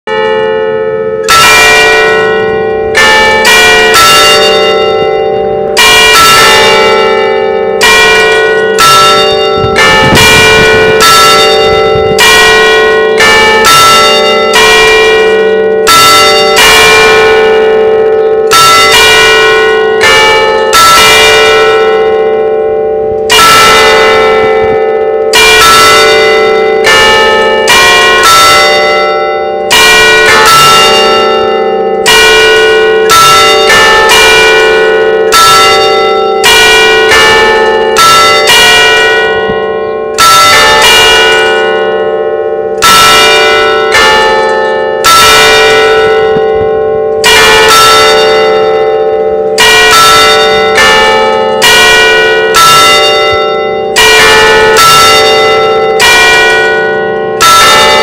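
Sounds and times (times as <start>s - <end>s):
church bells ringing: 0.1s - 58.0s.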